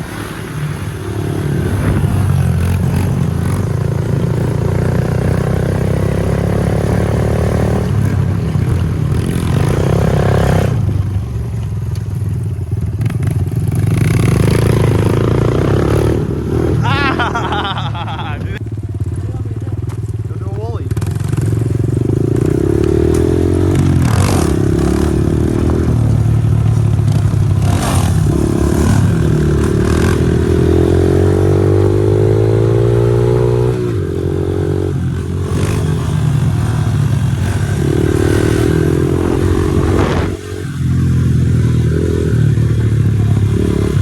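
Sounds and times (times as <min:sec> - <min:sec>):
motorbike engine revving: 0:00.0 - 0:11.2, 0:12.8 - 0:44.0.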